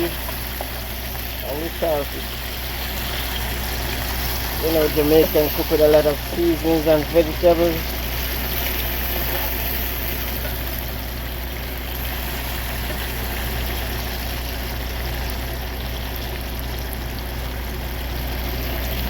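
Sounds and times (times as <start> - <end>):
steady hiss: 0.0 - 15.5
truck engine idling: 0.0 - 19.0.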